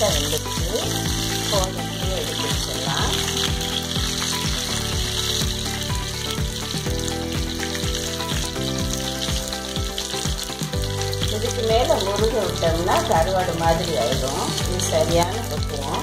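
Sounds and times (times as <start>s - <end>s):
background music with steady beat: 0.0s - 16.0s
hot oil sizzling: 0.0s - 16.0s.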